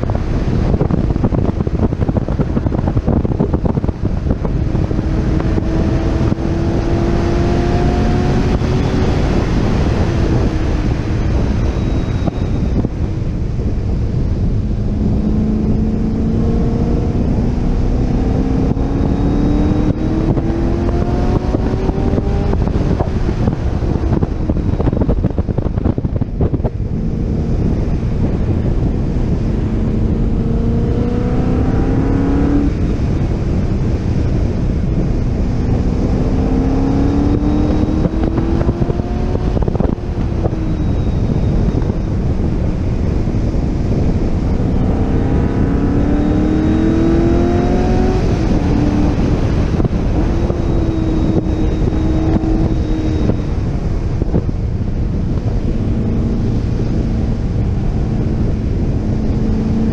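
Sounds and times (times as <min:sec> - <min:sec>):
car engine accelerating hard: 0:00.0 - 0:59.9
wind noise on microphone: 0:00.0 - 0:59.9.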